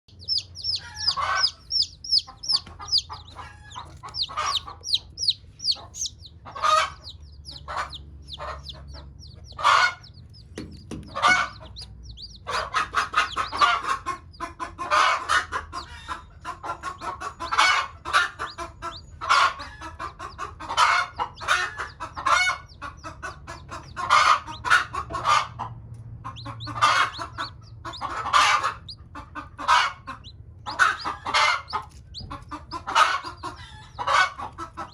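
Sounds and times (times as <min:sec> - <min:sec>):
chicks peeping: 0:00.0 - 0:34.9
hen clucking: 0:00.0 - 0:34.9.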